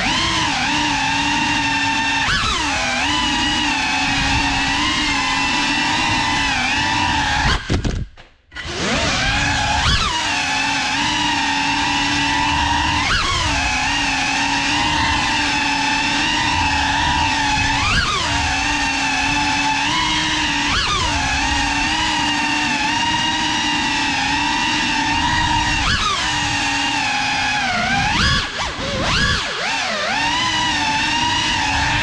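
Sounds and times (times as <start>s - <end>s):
drone propellers whining: 0.0s - 32.0s.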